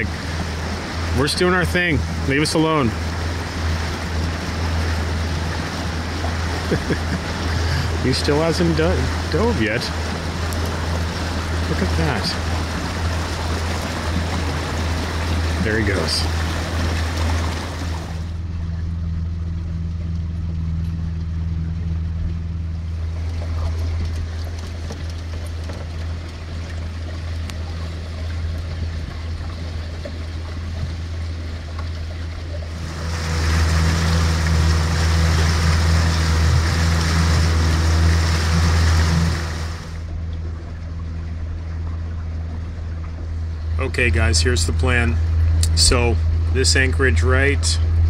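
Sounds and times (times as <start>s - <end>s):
boat motor humming: 0.0s - 48.0s.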